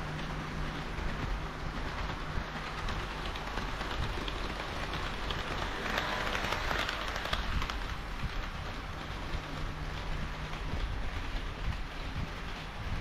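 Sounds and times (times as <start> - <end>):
model train rattling on track: 0.0 - 13.0.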